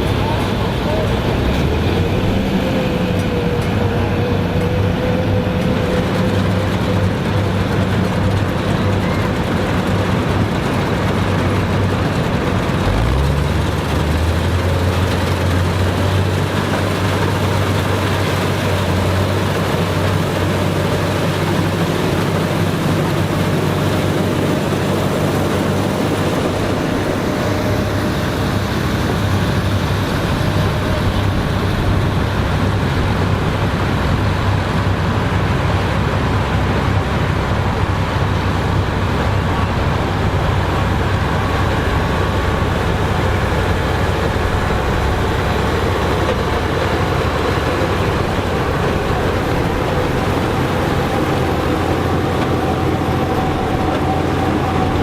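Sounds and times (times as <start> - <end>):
farm machinery engine running: 0.0 - 55.0.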